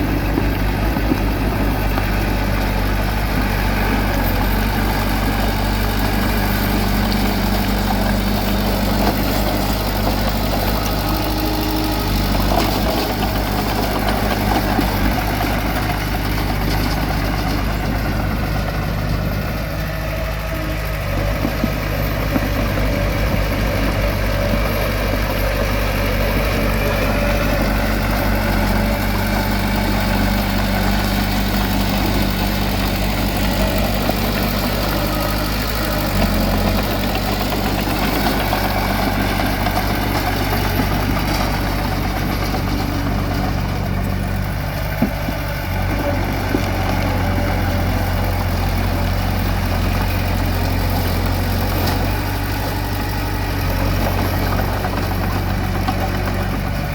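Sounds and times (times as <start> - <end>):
heavy machine engine droning: 0.0 - 56.9.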